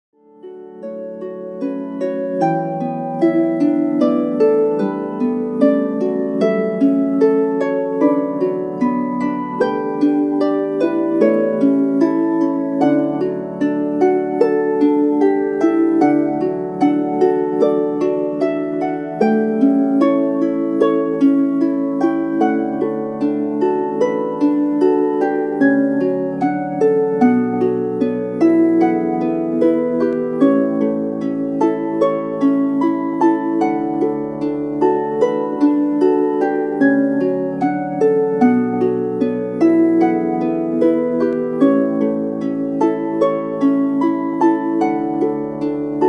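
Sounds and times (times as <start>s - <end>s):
harp playing calm melody: 0.2s - 46.0s.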